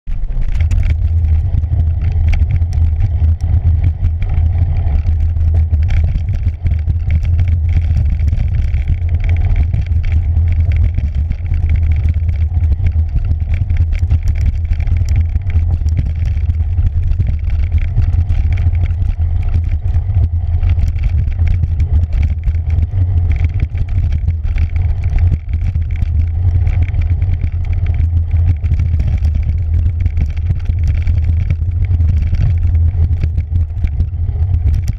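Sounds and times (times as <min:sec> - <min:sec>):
wind and vibration rumble: 0:00.0 - 0:34.9
bike rattling and clattering: 0:00.1 - 0:34.9.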